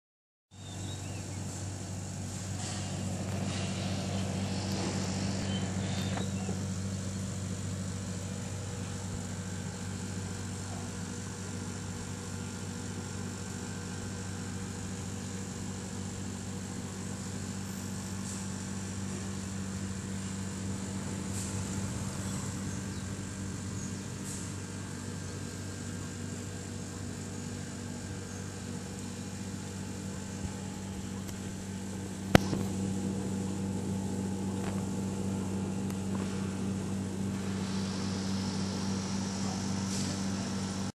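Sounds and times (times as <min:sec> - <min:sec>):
machine humming: 0:00.6 - 0:40.9.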